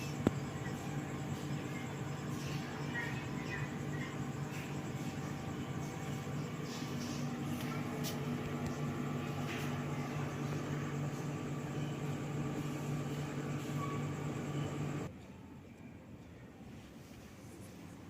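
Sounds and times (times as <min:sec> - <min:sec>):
air conditioner fan hum: 0:00.0 - 0:18.0.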